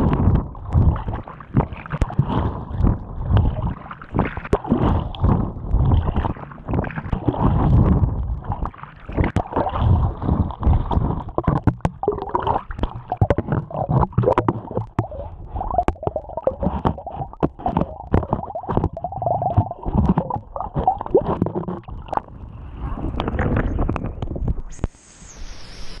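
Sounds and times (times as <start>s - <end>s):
water splashing and gurgling: 0.0s - 24.8s
muffled underwater bubbling: 0.0s - 24.9s.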